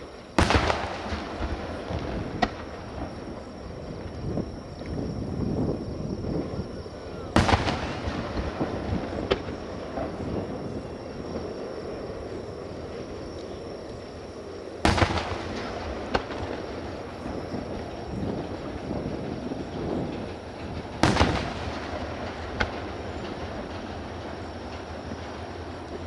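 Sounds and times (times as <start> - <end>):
fireworks booming: 0.0 - 26.0
fireworks crackle: 0.0 - 26.0.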